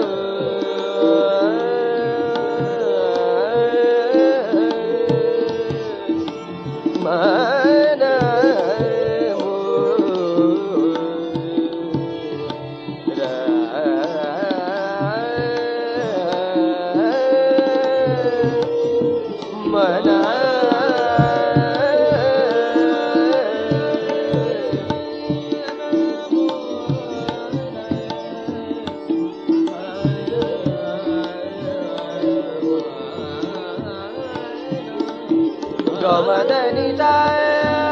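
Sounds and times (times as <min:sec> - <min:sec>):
tabla beat: 0:00.0 - 0:37.9.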